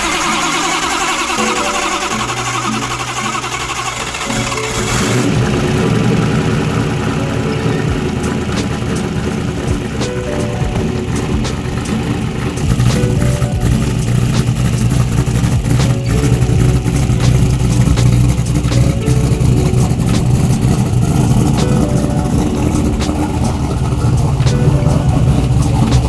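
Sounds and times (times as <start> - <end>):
car engine idling loudly: 0.0 - 26.0
sharp engine cracks: 0.0 - 26.0.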